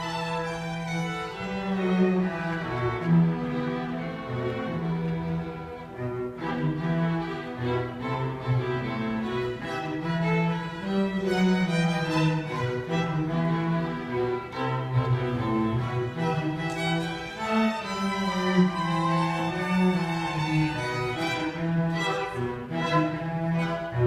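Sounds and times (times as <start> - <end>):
string ensemble playing: 0.0 - 24.0.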